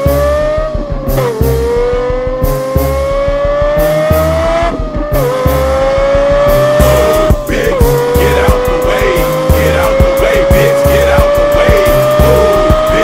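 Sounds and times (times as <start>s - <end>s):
hip-hop beat: 0.0s - 13.0s
race car engine accelerating: 0.0s - 13.0s.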